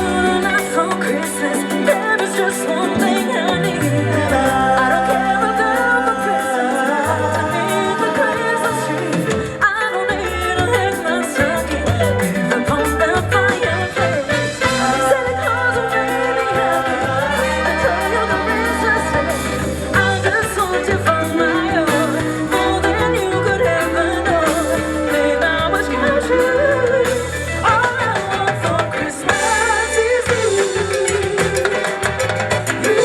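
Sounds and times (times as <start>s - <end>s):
live band playing latin music: 0.0s - 33.0s.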